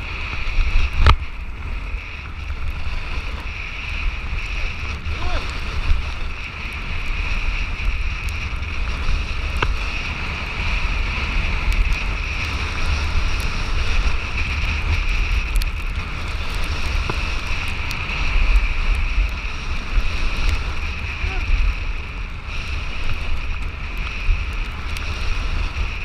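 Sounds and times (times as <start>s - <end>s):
snow hissing under skis: 0.0s - 26.0s
wind rushing over microphone: 0.0s - 26.0s.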